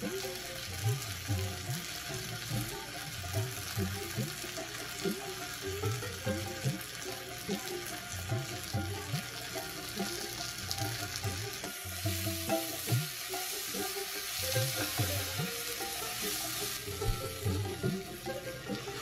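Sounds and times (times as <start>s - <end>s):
onions sizzling in hot fat: 0.0s - 19.0s.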